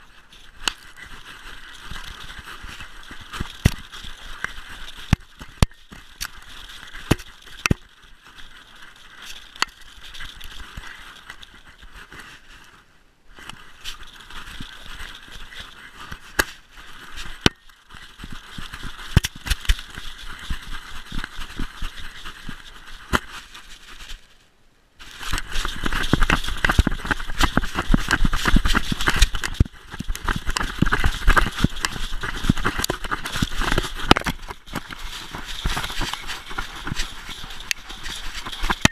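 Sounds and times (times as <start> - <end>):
camera housing rubbing on fur: 0.0 - 12.4, 13.4 - 24.3, 25.0 - 38.9
paws in snow: 0.0 - 24.4, 25.0 - 38.9.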